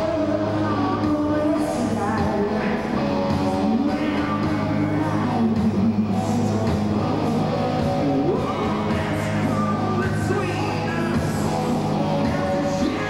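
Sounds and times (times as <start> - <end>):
bass guitar: 0.0 - 13.0
drums: 0.0 - 13.0
electric guitar: 0.0 - 13.0
man singing: 0.0 - 13.0.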